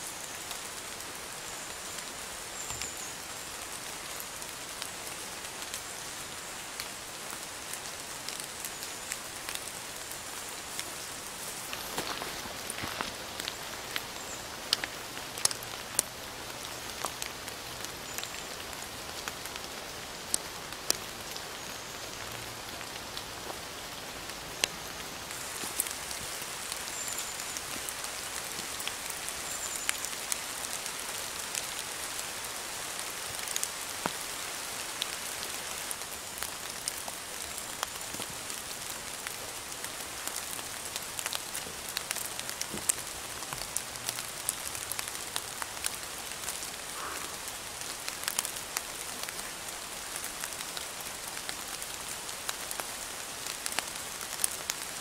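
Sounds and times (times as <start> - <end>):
rain falling through trees: 0.0 - 55.0
raindrops tapping close by: 6.7 - 55.0.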